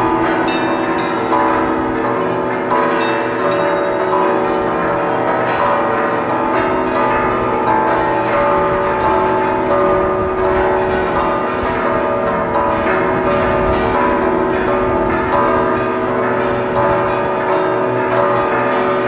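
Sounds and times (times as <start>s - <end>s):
large bells pealing: 0.0s - 19.0s.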